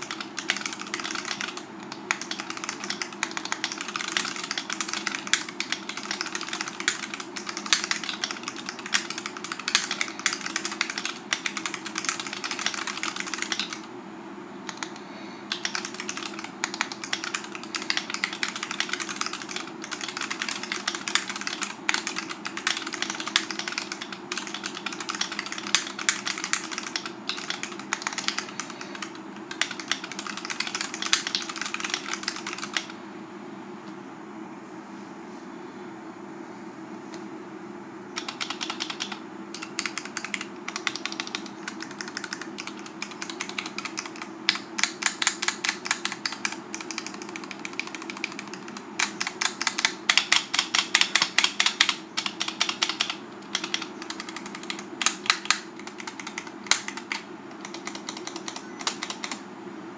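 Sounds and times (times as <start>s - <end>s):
mechanical keyboard typing: 0.0s - 13.9s, 14.7s - 33.0s, 38.2s - 59.4s.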